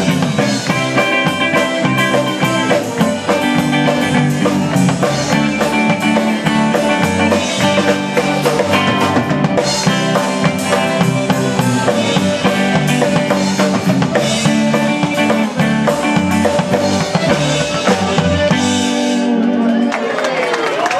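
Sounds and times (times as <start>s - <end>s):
live rock band playing: 0.0s - 20.8s
electric guitar: 0.0s - 20.9s.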